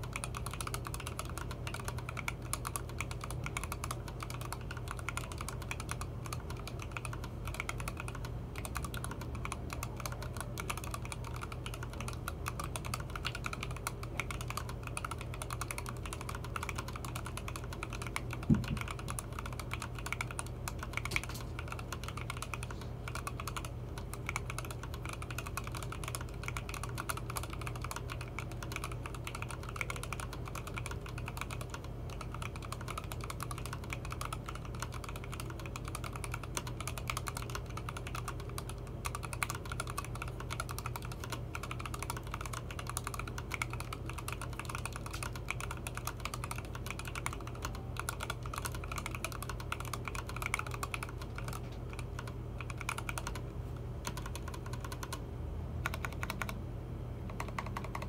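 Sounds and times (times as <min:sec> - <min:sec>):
rapid mechanical keyboard typing: 0:00.0 - 0:55.2, 0:55.8 - 0:56.6, 0:57.3 - 0:58.0.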